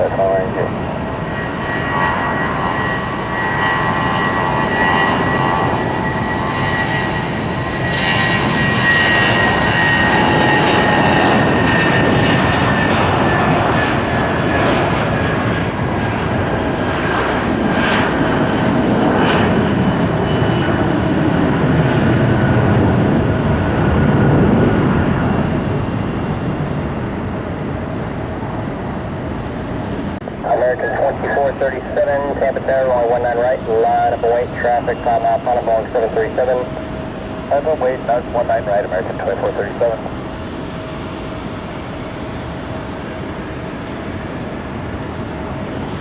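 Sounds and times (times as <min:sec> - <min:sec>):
jet airliner engines passing: 0:00.0 - 0:46.0.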